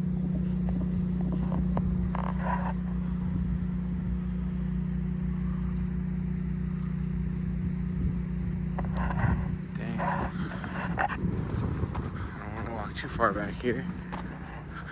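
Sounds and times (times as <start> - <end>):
engine idling hum: 0.0 - 14.9.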